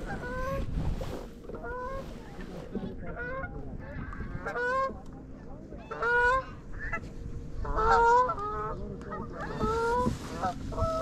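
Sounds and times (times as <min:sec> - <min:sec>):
geese honking: 0:00.0 - 0:00.6, 0:01.5 - 0:02.4, 0:03.0 - 0:05.0, 0:05.7 - 0:11.0
wind noise on microphone: 0:00.0 - 0:05.0, 0:05.9 - 0:11.0.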